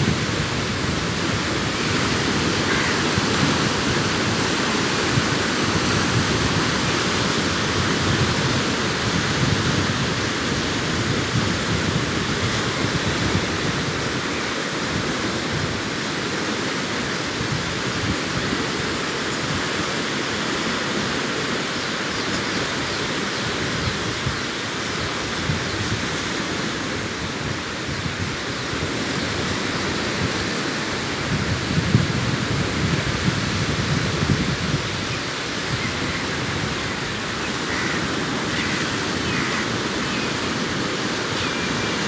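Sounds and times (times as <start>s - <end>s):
sea surf on a beach: 0.0s - 42.0s.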